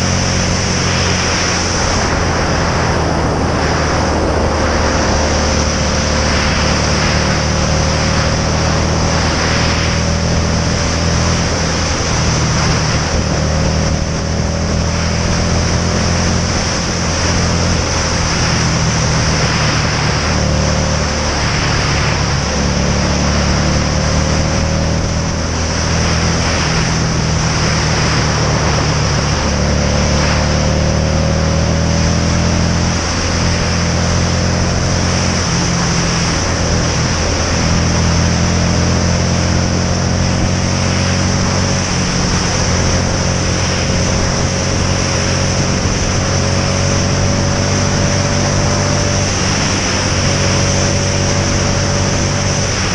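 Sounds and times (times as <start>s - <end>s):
motorcycle engine running: 0.0s - 52.9s
wind rush on microphone: 0.0s - 52.9s.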